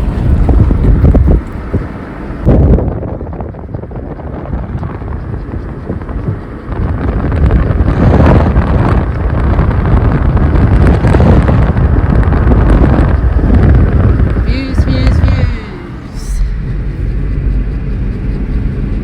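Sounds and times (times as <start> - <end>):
road rumble: 0.0 - 19.0
wind buffeting microphone: 0.0 - 19.0.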